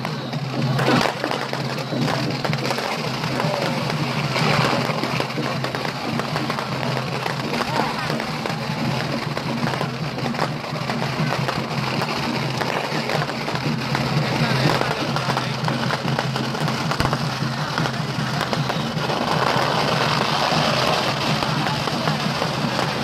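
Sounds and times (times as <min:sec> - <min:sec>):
firecrackers crackling: 0:00.0 - 0:23.0
music: 0:00.0 - 0:23.0.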